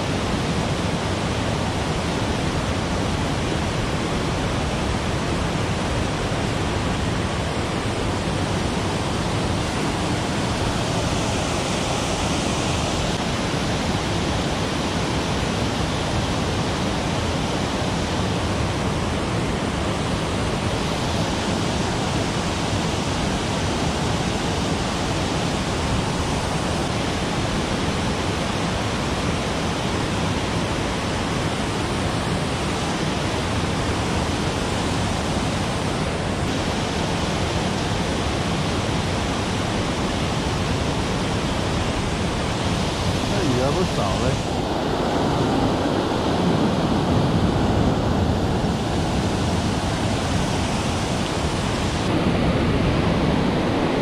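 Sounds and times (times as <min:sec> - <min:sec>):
water rushing over weir: 0:00.0 - 0:54.0.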